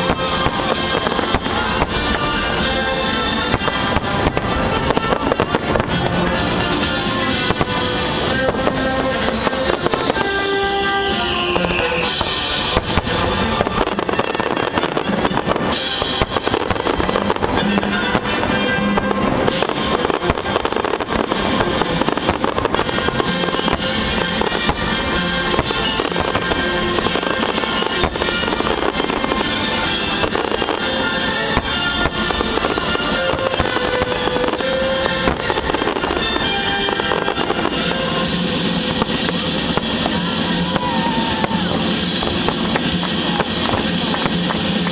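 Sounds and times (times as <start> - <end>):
fireworks bursting and crackling: 0.0 - 44.9
music playing: 0.0 - 44.9.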